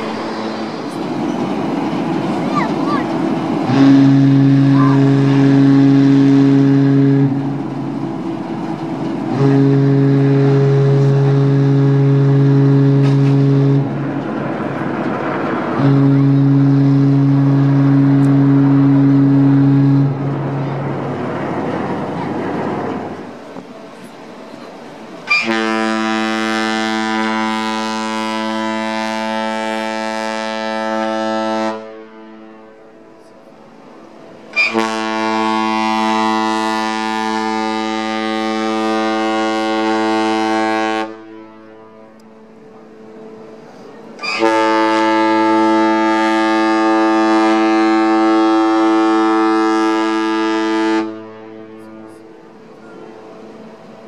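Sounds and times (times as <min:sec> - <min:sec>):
ship horn blasts: 0:00.0 - 0:54.0.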